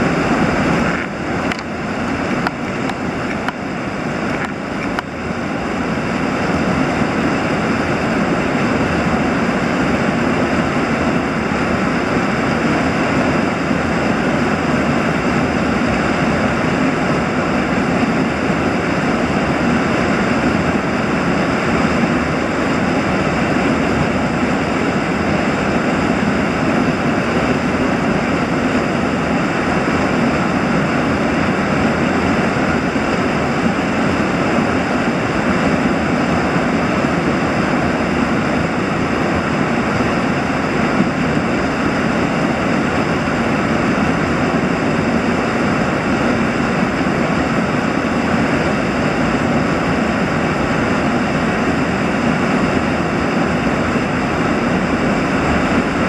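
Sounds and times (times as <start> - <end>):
white water rushing over rock: 0.0 - 56.0.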